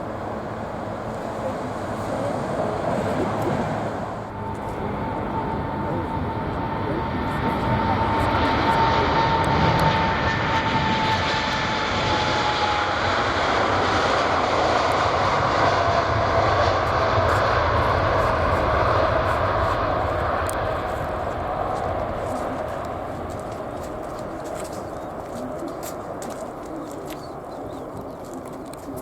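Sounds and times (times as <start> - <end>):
jet engines running loud: 0.0 - 29.0.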